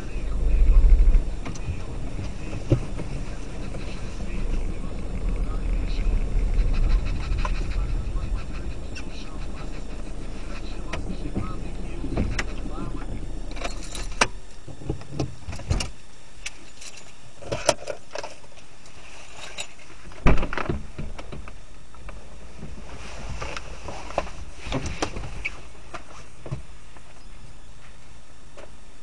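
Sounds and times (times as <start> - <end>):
low rumble inside car: 0.0 - 29.0.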